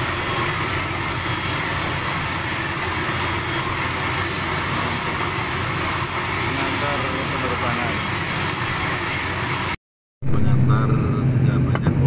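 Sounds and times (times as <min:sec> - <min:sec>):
low hum: 0:00.0 - 0:12.0
turboprop engines droning: 0:00.0 - 0:12.0.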